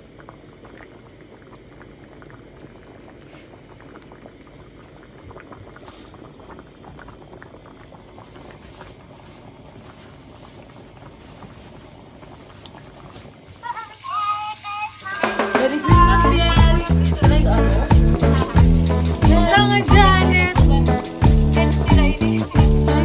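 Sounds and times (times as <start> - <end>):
liquid bubbling with pops: 0.0 - 13.6, 15.0 - 23.0.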